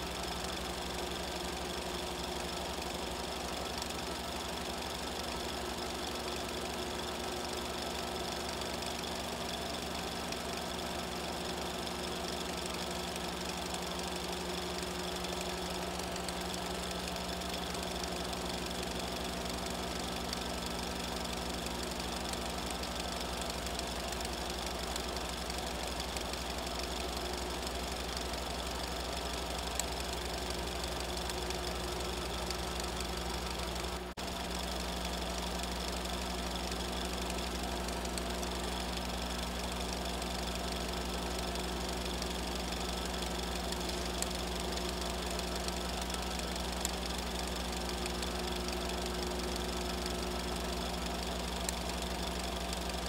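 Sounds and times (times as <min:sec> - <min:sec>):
film projector whirring: 0:00.0 - 0:53.0.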